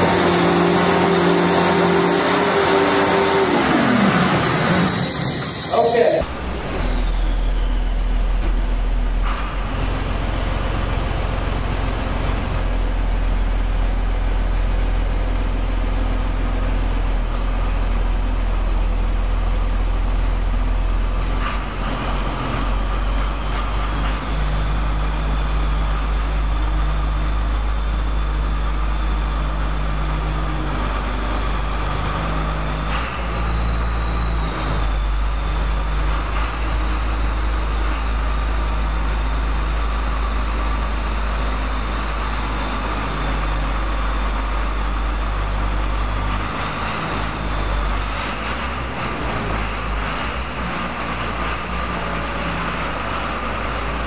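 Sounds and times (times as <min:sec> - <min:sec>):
tractor diesel engine rumbling: 0:00.0 - 0:54.0.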